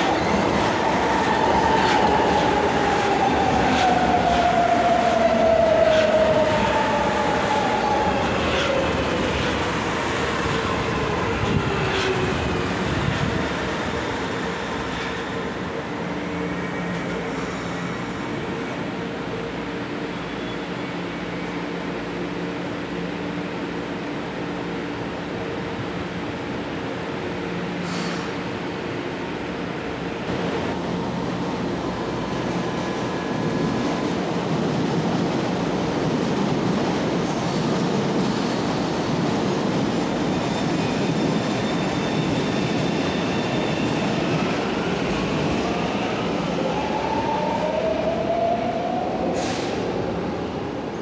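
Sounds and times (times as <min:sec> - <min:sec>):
train hum: 0:00.0 - 0:51.0.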